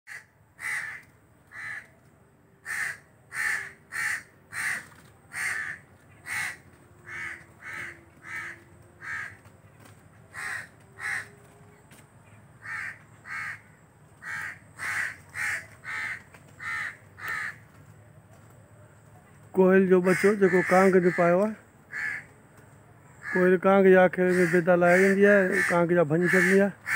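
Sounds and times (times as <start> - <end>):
crows cawing: 0.1 - 2.0, 2.6 - 11.6, 12.3 - 17.9, 19.8 - 22.4, 23.1 - 26.9.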